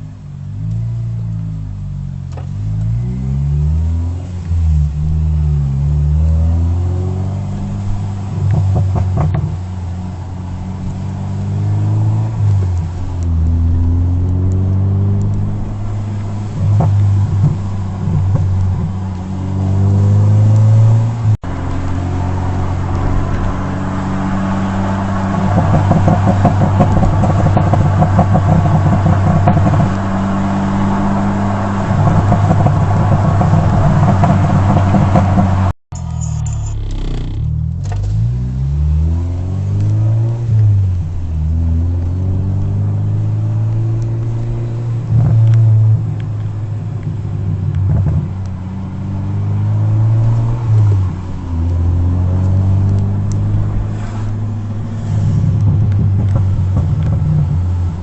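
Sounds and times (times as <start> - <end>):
car engine revving: 0.0 - 58.0
exhaust pops and crackles: 4.3 - 38.4, 39.1 - 48.7, 49.9 - 58.0.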